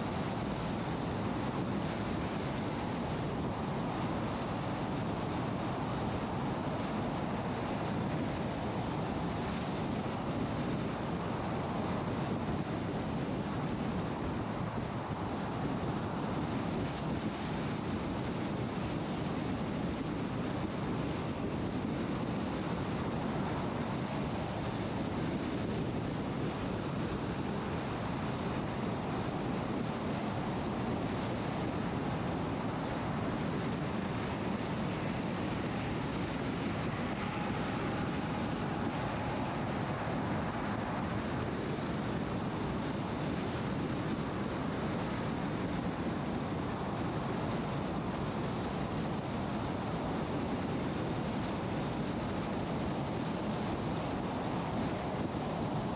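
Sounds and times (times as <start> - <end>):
wind rush: 0.0 - 55.9.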